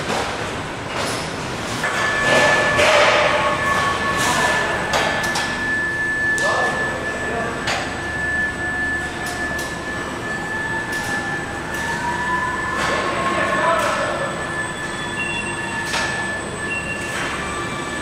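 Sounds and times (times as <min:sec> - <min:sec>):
steady high tone: 0:01.8 - 0:18.0.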